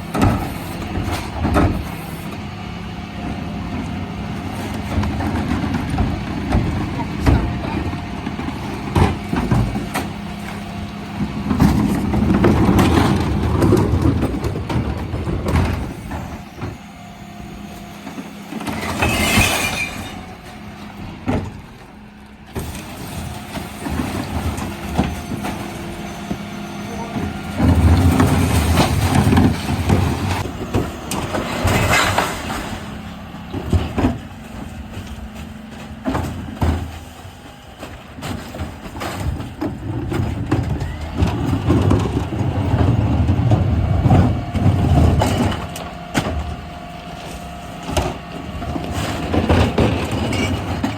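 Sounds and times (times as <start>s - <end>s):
mechanical working noise: 0.0s - 50.9s
refuse truck engine running: 0.0s - 50.9s.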